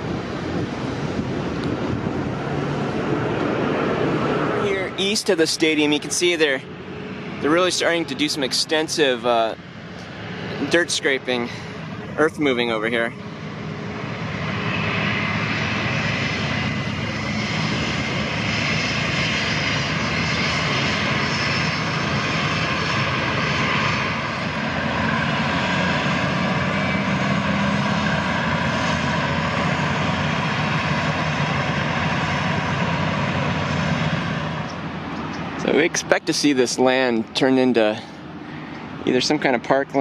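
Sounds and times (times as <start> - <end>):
airplane engines droning: 0.0 - 40.0.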